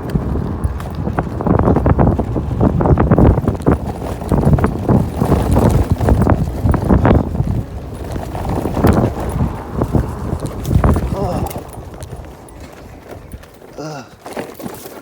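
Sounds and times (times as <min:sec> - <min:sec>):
wind buffeting microphone: 0:00.0 - 0:14.7
scooter knocking and rattling: 0:00.0 - 0:15.0.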